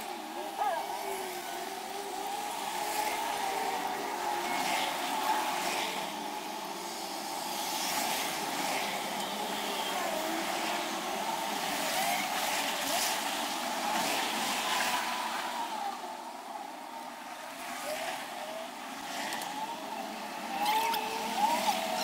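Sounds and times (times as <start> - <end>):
background voices: 0.0 - 22.0.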